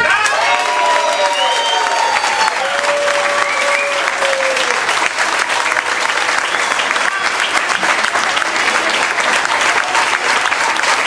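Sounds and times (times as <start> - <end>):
audience applauding: 0.0 - 11.0
crowd voices: 0.0 - 11.0.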